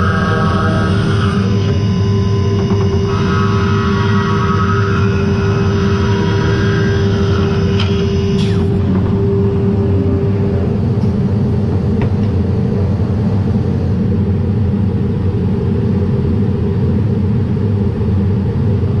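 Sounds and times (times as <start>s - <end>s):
machine hum: 0.0s - 19.0s
machine low rumble: 0.0s - 19.0s.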